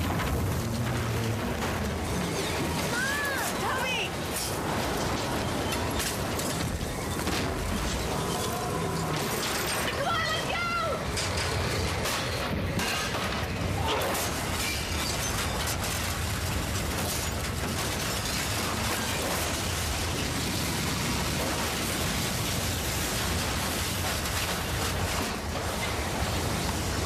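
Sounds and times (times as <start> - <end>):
debris rattling and breaking: 0.0 - 27.0
tornado-force wind rushing: 0.0 - 27.0.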